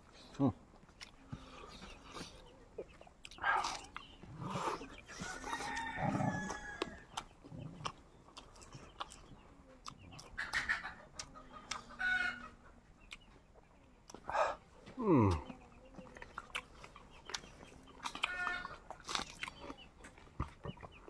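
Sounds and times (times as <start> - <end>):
chickens clucking and crowing: 0.6 - 21.0.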